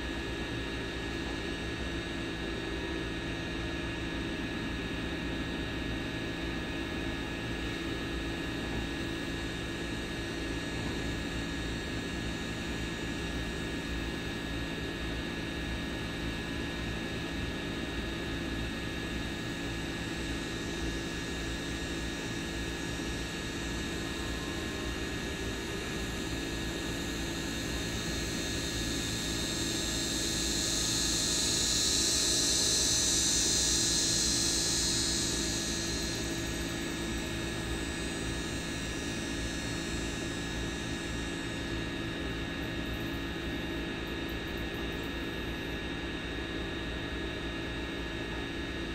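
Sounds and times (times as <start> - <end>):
constant hum: 0.0 - 48.9.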